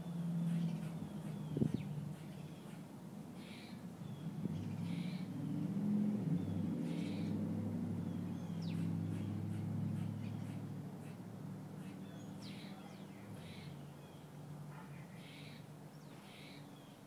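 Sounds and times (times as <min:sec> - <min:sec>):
birds chirping: 0:00.0 - 0:17.0
low engine hum: 0:00.0 - 0:17.0.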